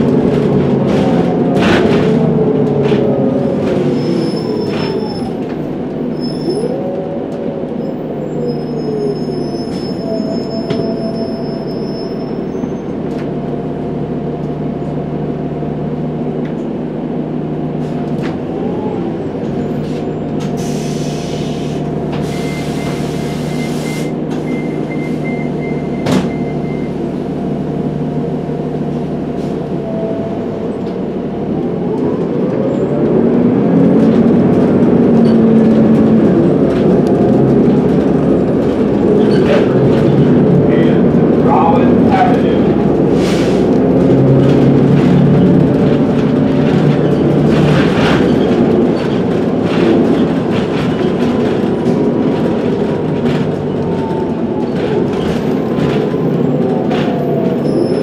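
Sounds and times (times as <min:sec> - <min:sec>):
bus engine and drivetrain whine: 0:00.0 - 0:58.0.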